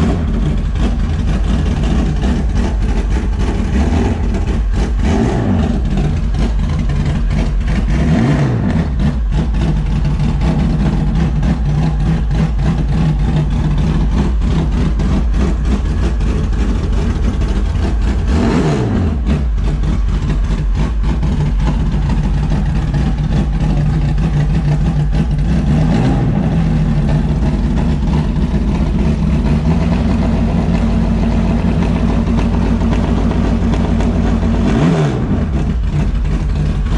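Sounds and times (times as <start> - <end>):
race car engine idling and revving: 0.0 - 36.9.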